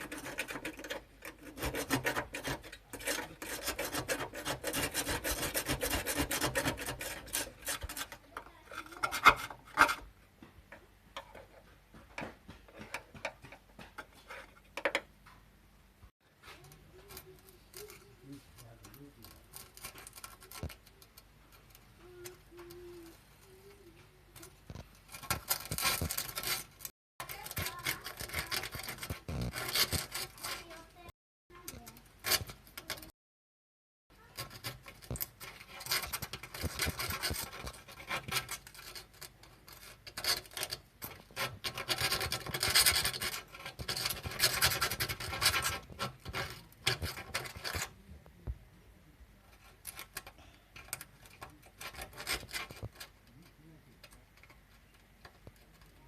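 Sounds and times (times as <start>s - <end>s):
scraping and sanding metal: 0.0s - 10.2s, 16.3s - 33.1s, 34.2s - 48.0s, 49.5s - 56.0s.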